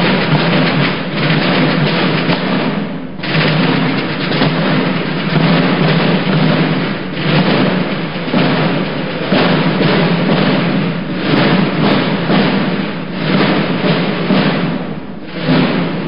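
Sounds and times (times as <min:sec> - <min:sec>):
military drum roll: 0:00.0 - 0:16.0.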